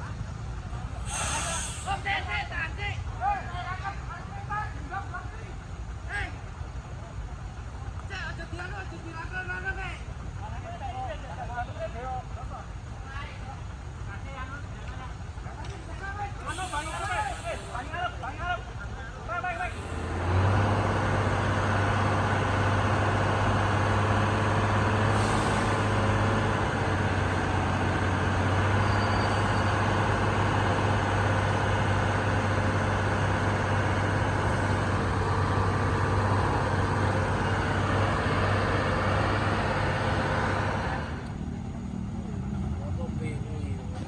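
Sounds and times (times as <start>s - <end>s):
truck diesel engine labouring: 0.0s - 8.0s, 12.7s - 44.0s.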